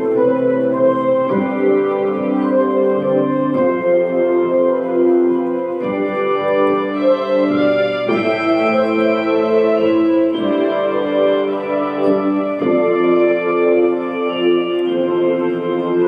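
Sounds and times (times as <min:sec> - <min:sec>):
organ playing sustained chords: 0:00.0 - 0:16.0.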